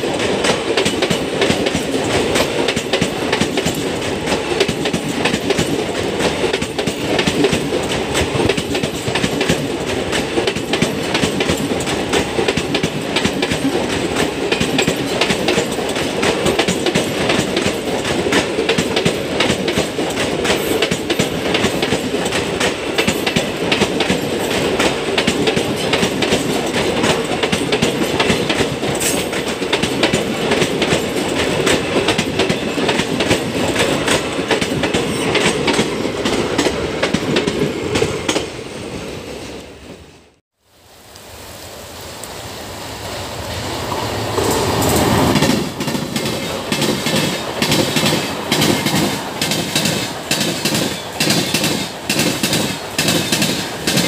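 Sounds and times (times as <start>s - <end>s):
train wheels clattering over rail joints: 0.0s - 38.6s, 44.3s - 54.0s.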